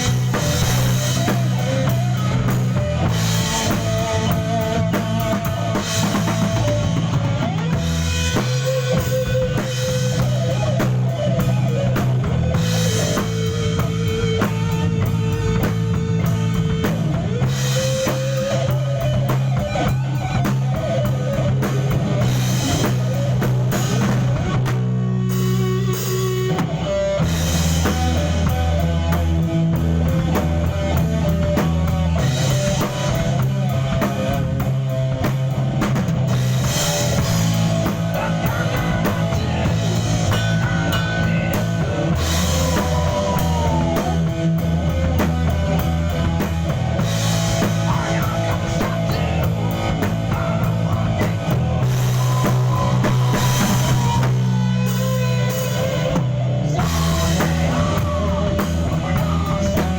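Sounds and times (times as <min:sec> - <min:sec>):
bass line: 0:00.0 - 0:59.9
drum kit beat: 0:00.0 - 0:59.9
guitar: 0:00.0 - 0:59.9.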